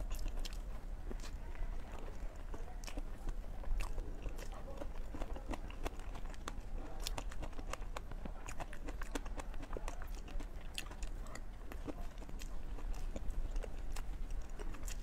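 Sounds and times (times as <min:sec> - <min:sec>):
wet chewing mouth sounds: 0:00.0 - 0:15.0.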